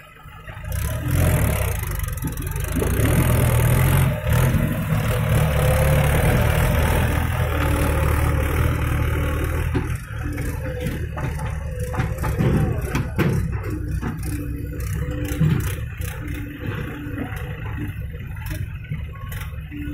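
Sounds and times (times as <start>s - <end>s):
tractor diesel engine: 0.0s - 19.9s.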